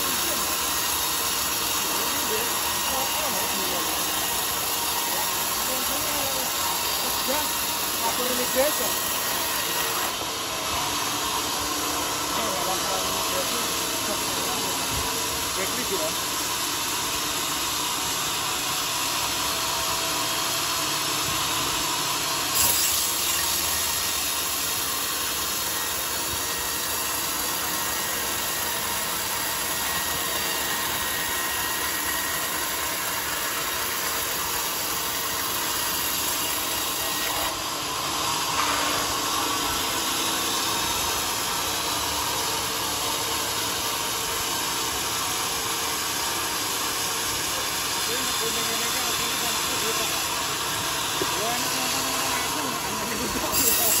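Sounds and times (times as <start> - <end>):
band saw cutting log: 0.0 - 54.0
sawmill machine running: 0.0 - 54.0.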